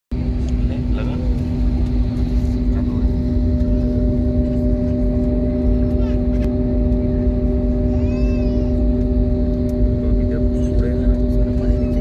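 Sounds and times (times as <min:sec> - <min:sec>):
heavy low rumble: 0:00.1 - 0:12.0
jet engine cabin hum: 0:00.1 - 0:12.0.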